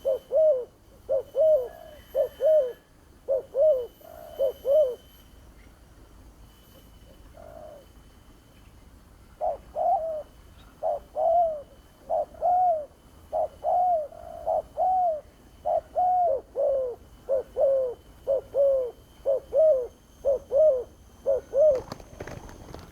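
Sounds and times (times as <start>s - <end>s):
dove cooing: 0.0s - 5.1s, 7.3s - 7.9s, 9.4s - 22.9s.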